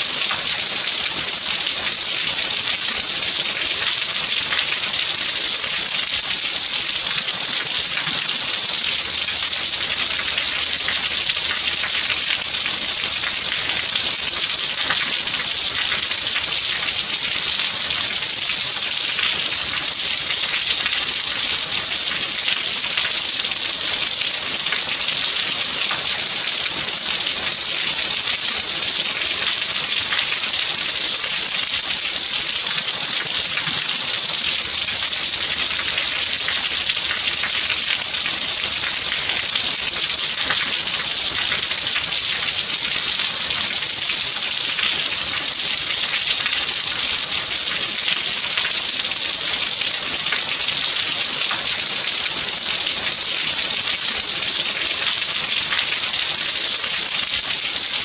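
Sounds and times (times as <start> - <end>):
steady rain falling: 0.0 - 57.6.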